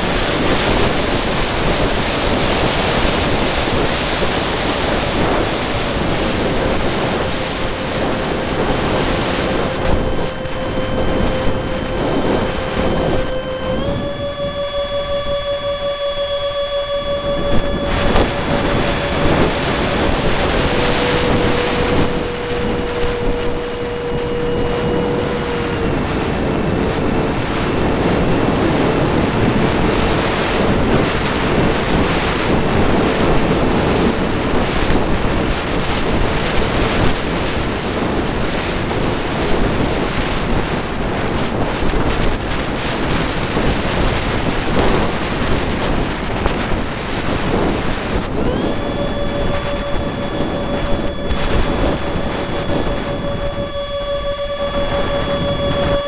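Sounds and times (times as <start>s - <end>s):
electric ducted fan whining: 0.0s - 56.0s
wind on microphone: 0.0s - 56.0s.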